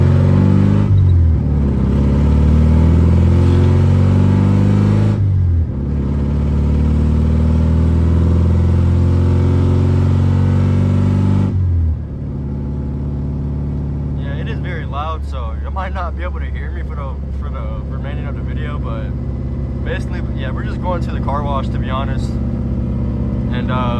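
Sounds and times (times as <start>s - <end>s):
car engine running loud: 0.0s - 23.9s.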